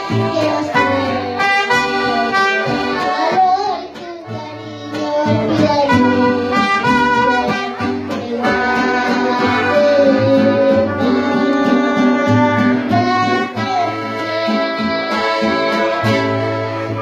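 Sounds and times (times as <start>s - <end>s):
accordion: 0.0s - 17.0s
strummed guitars: 0.0s - 17.0s
trumpet: 0.0s - 17.0s.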